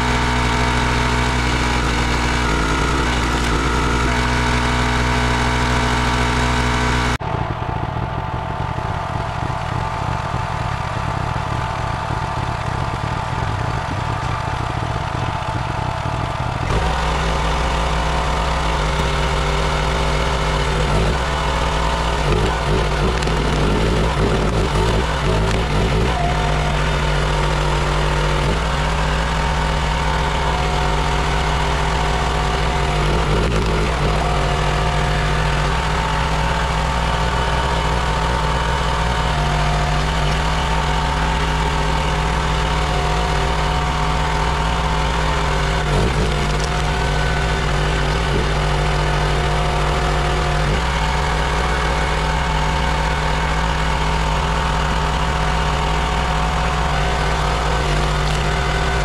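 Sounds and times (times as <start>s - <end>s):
log splitter engine running: 0.0s - 59.0s.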